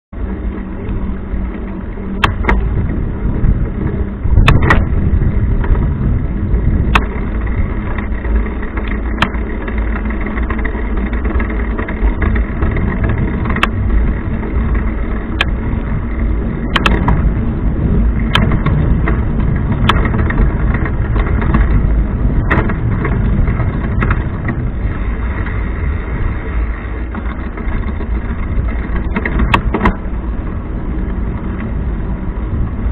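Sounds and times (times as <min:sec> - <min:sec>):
bicycle chain grinding: 0:00.2 - 0:32.9
derailleur ticking: 0:00.4 - 0:32.6.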